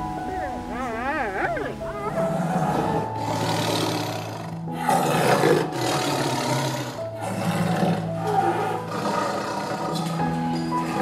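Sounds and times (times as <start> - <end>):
background music: 0.0 - 11.0
lion roaring: 0.7 - 11.0.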